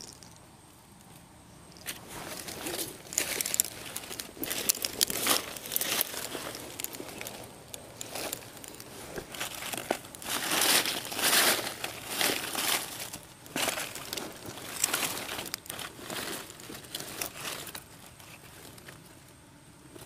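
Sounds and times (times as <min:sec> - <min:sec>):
dry leaves rustling: 0:01.7 - 0:19.3.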